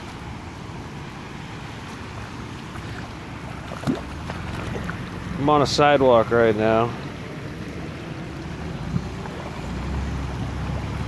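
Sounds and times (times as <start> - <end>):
shallow water flowing: 0.0 - 11.0.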